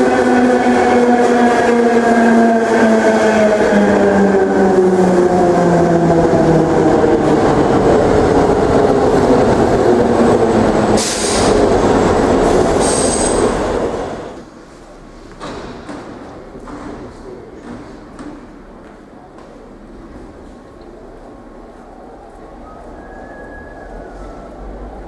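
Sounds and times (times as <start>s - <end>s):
train rolling noise: 0.0s - 25.0s.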